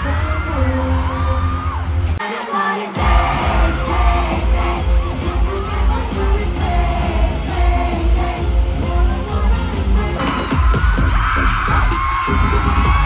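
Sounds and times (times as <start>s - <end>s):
crowd yelling: 0.0s - 8.3s, 10.0s - 13.0s
pop music over arena speakers: 0.0s - 13.0s.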